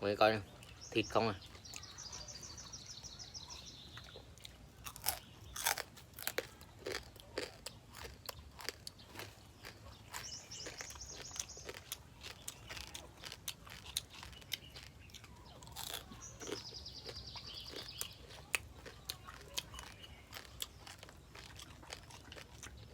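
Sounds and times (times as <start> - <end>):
crunching and chewing crab shell: 1.4 - 22.9.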